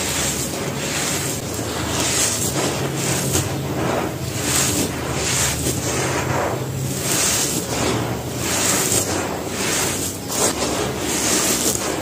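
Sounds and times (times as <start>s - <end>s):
cement dust crumbled by hand: 0.0s - 12.0s.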